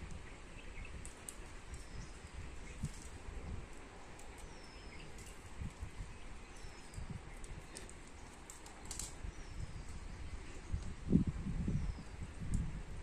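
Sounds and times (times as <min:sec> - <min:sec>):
outdoor ambience: 0:00.0 - 0:13.0.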